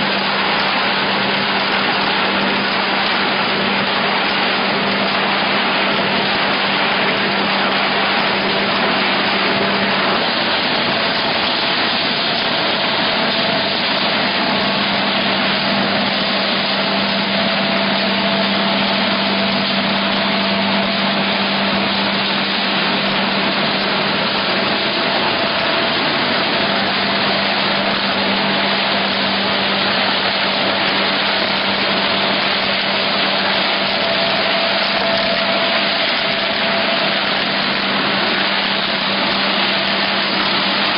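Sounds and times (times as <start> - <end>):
machine hissing: 0.0 - 40.9
steady machine hum: 0.0 - 40.9.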